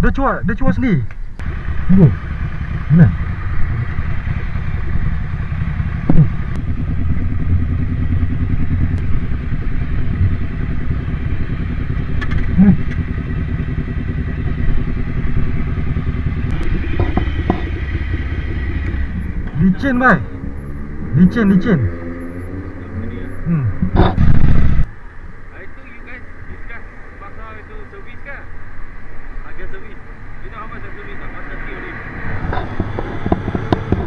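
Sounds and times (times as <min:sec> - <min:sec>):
motorcycle engine running: 0:01.1 - 0:34.0.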